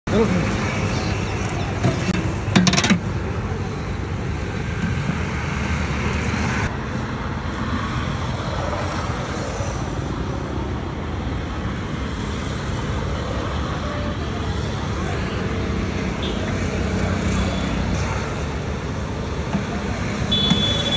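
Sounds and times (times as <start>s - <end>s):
road traffic noise: 0.0s - 20.9s.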